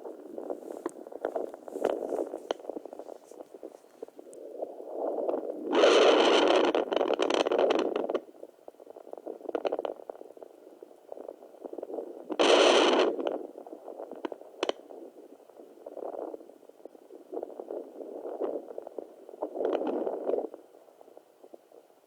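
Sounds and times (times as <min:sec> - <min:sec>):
scratchy crackling noise: 0:00.0 - 0:22.0.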